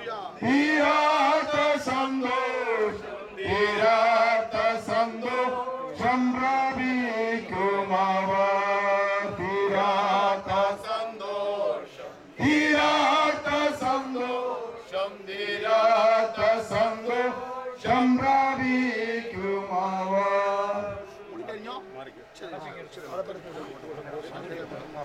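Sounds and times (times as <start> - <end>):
group singing a slow hymn: 0.4 - 21.4.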